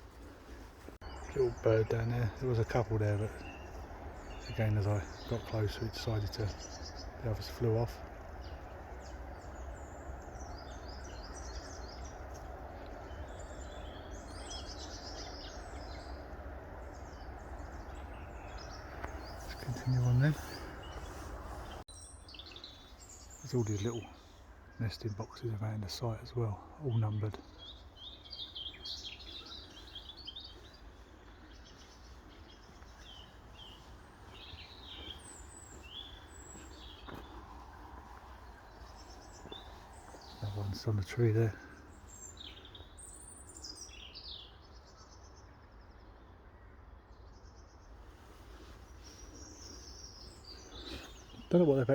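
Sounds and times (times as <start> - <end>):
small birds chirping: 0.0 - 51.9
small songbirds twittering: 0.0 - 51.9.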